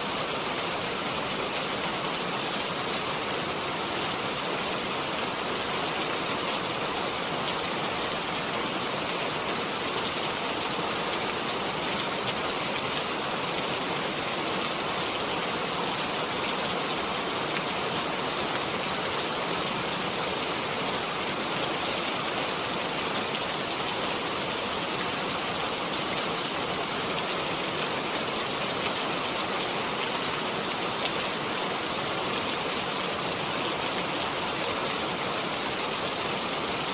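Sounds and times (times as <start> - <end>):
rain pattering on a surface: 0.0 - 36.9.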